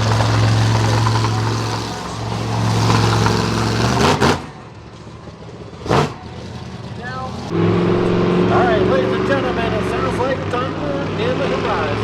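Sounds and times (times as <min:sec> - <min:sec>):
monster truck engine running: 0:00.0 - 0:12.0.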